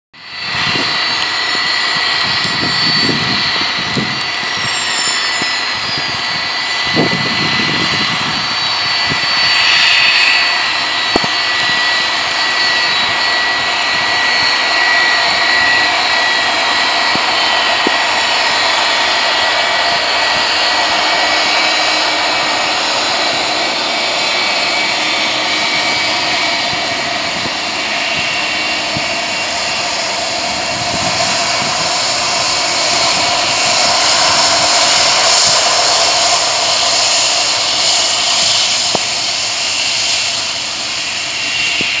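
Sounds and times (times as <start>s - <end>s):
jet engine hiss and whine: 0.2s - 42.0s.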